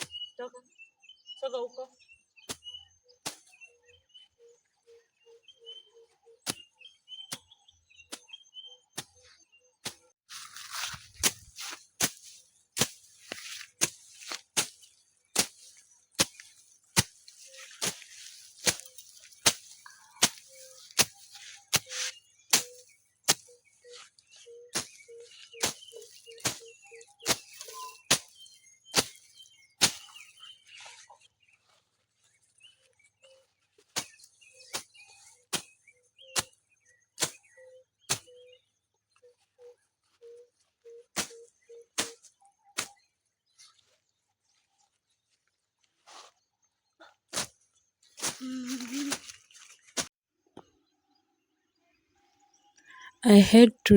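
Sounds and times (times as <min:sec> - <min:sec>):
birds chirping faintly: 0:00.0 - 0:53.9.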